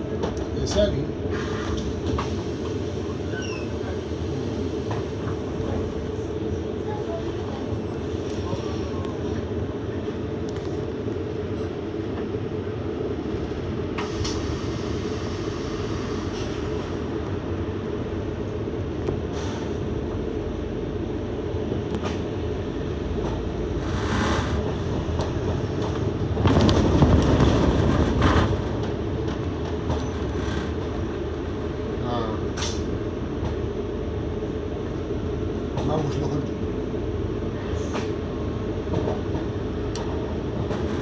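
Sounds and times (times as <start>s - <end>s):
bus running hum and rattle: 0.0s - 41.0s.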